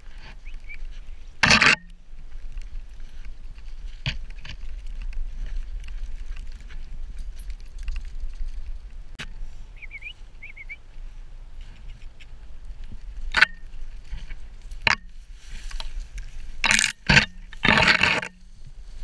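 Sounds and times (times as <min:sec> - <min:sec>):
dry grass stalks rustling: 0:00.0 - 0:19.0.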